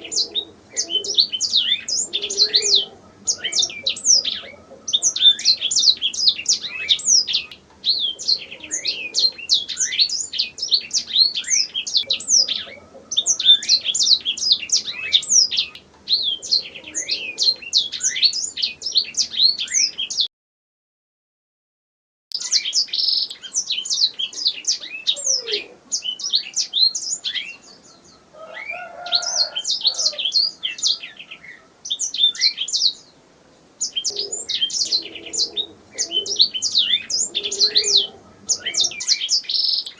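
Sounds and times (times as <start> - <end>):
canary singing trills: 0.0 - 20.3, 22.4 - 33.2, 33.8 - 39.9.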